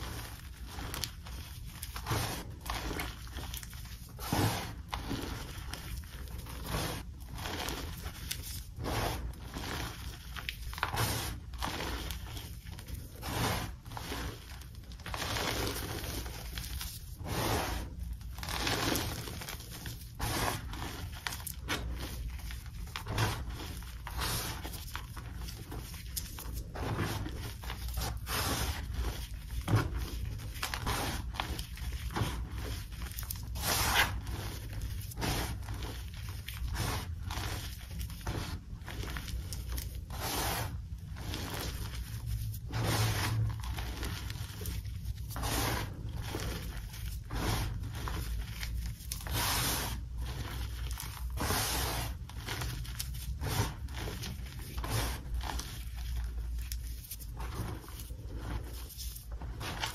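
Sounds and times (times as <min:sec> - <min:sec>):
hands squeezing chalk powder: 0:00.0 - 0:59.9.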